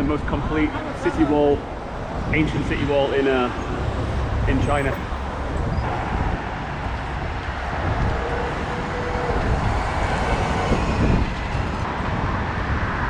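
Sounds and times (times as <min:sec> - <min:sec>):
heavy road traffic roar: 0:00.0 - 0:13.0.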